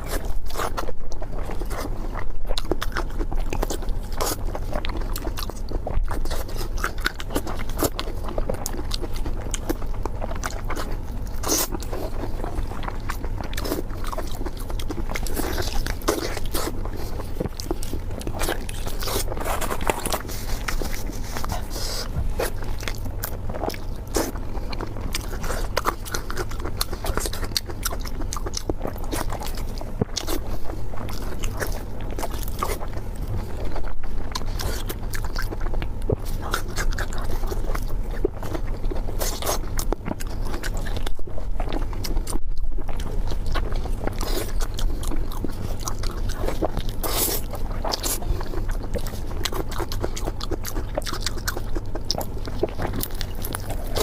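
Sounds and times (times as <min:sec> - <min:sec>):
biting and chewing food: 0:00.0 - 0:54.0
steady low hum: 0:00.0 - 0:54.0.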